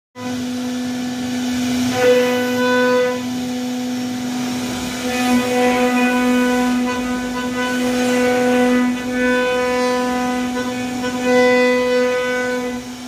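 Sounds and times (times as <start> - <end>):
router spindle whine carving wood: 0.2 - 13.0.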